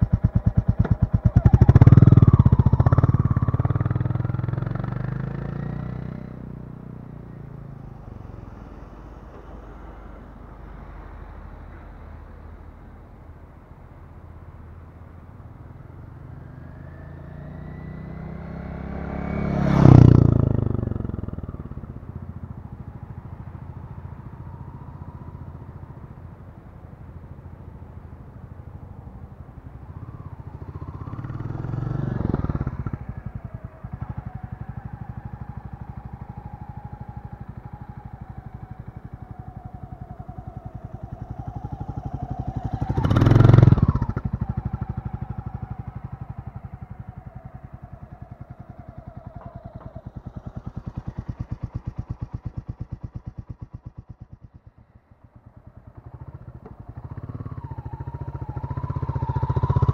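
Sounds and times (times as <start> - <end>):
motorcycle riding past: 0.0 - 13.2, 14.7 - 59.9
quieter vehicle passing: 0.0 - 59.9.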